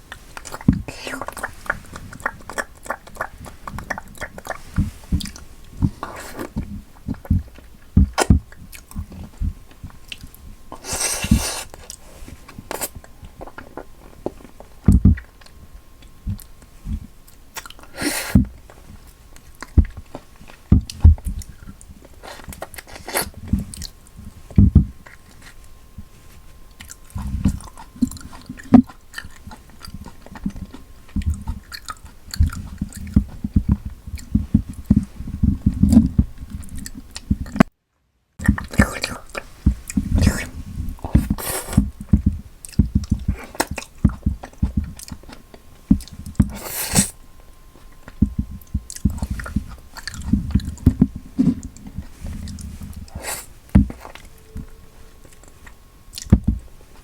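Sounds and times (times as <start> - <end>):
wet chewing with smacks: 0.0 - 37.7, 38.4 - 57.0.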